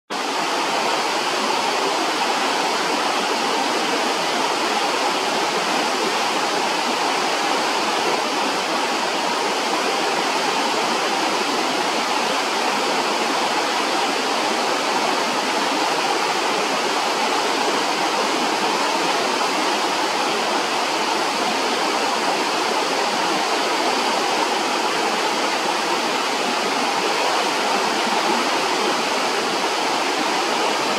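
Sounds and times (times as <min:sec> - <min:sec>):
river water rushing over rocks: 0:00.1 - 0:30.9.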